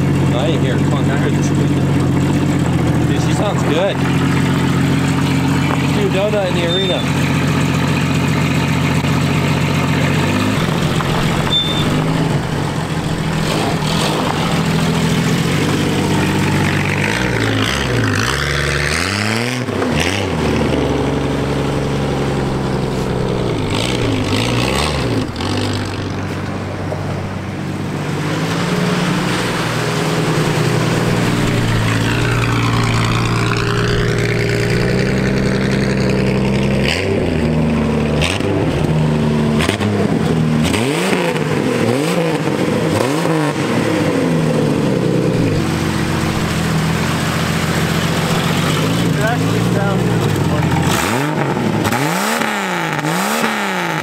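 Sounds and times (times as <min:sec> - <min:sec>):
loud car engine revving: 0:00.0 - 0:54.0.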